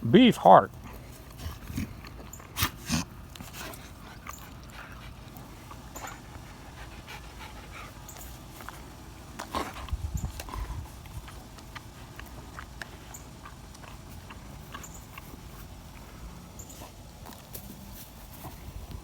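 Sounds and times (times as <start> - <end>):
dog crunching a treat: 0.2 - 19.0
dog chewing clicks: 0.8 - 17.7.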